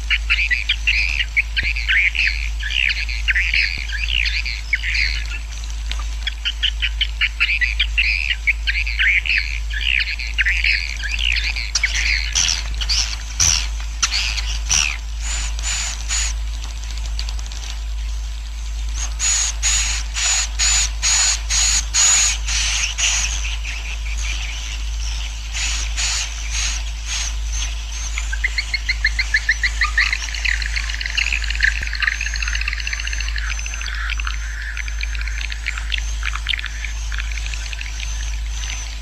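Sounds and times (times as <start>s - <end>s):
steady low hum: 0.0s - 39.0s
swiftlets twittering: 0.0s - 39.0s.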